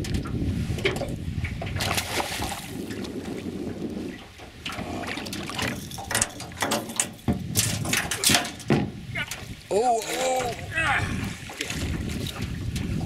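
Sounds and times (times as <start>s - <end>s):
water splashing against boat: 0.0s - 13.0s
wind rumbling on microphone: 0.0s - 13.0s.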